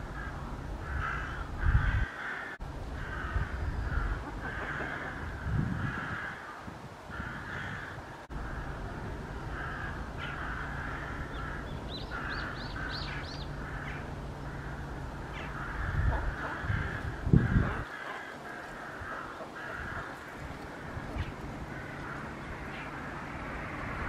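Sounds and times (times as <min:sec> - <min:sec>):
crows cawing: 0:00.0 - 0:23.3.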